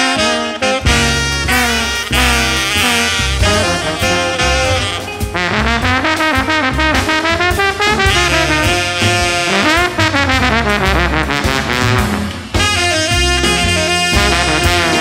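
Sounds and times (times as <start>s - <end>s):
jazz music with brass horns: 0.0s - 15.0s.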